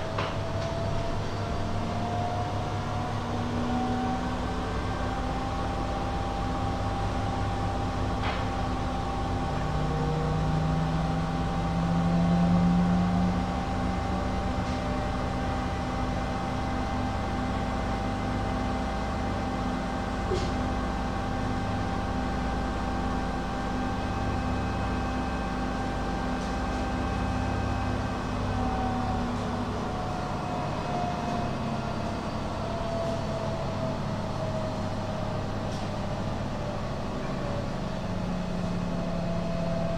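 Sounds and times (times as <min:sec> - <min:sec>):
washing machine whine and rumble: 0:00.0 - 0:39.9.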